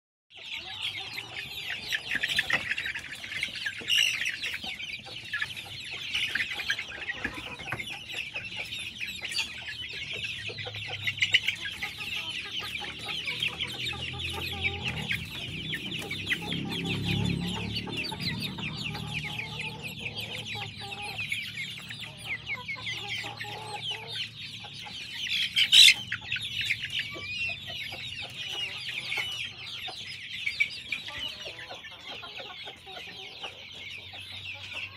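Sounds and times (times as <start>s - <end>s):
chickens clucking and calling: 0.3s - 34.9s.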